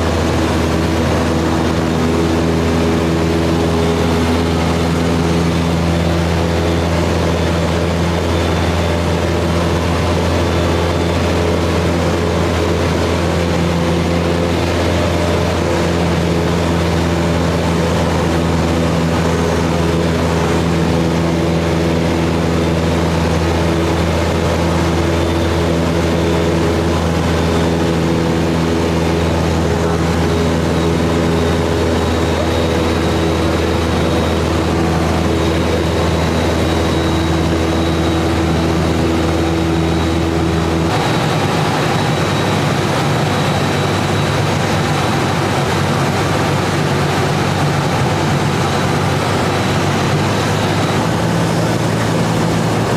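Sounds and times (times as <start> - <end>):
airplane engine droning in cabin: 0.0 - 52.9.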